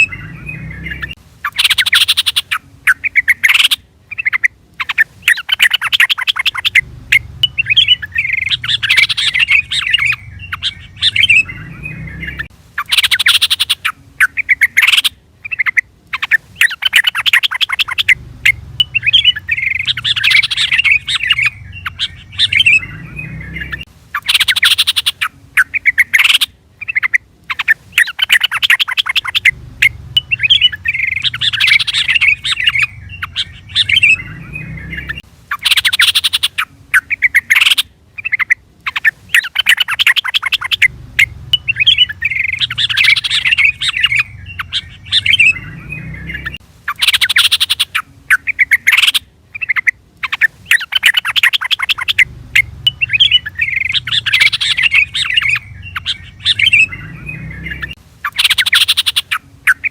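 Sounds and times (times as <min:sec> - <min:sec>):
bird chattering call: 0:00.0 - 0:59.9.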